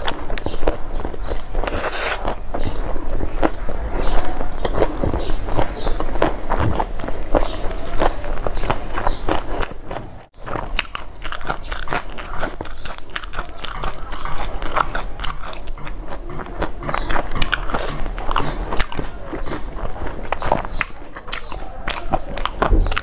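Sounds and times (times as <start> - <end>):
wet mouth clicks: 0.0 - 10.1, 10.7 - 23.0
crunching and chewing greens: 0.0 - 23.0.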